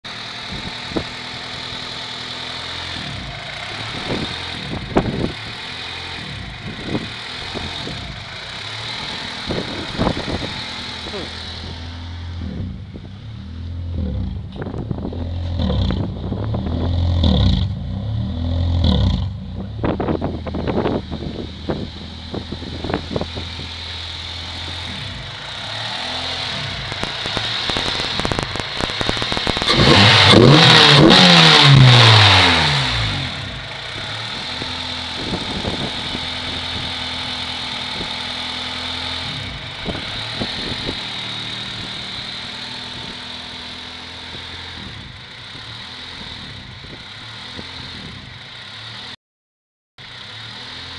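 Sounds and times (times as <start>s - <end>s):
car engine idling roughly: 0.0s - 13.2s, 19.8s - 31.0s, 33.3s - 49.2s, 50.0s - 50.9s.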